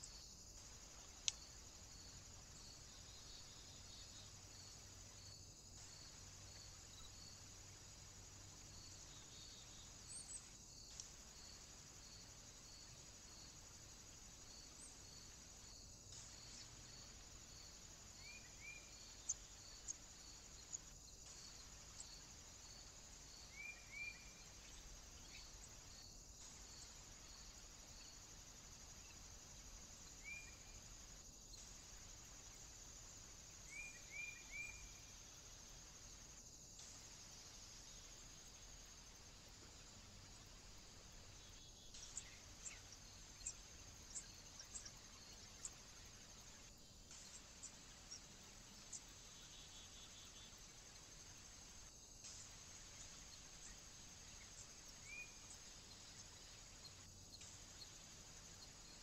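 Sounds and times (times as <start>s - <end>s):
insect hiss: 0.0s - 59.0s.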